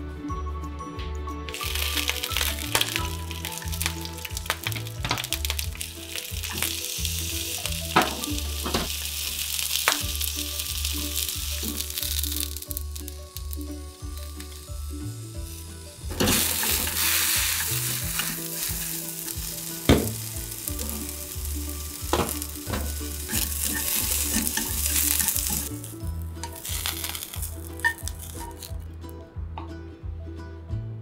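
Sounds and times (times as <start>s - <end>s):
soft music with pulsing beat: 0.0s - 31.0s
vegetables sizzling in a pan: 1.5s - 28.8s.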